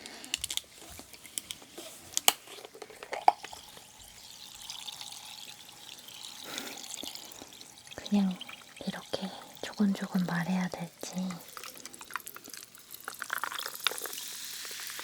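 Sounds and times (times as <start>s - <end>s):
fizzing hiss: 2.1s - 15.0s
drink pouring into glass: 2.4s - 15.0s.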